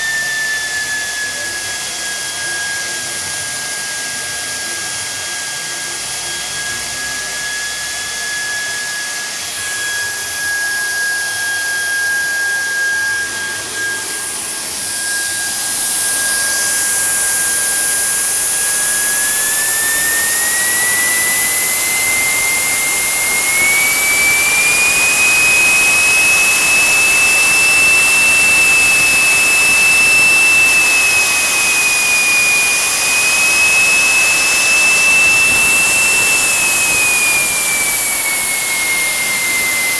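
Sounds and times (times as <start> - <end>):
jet turbine whining: 0.0 - 39.9.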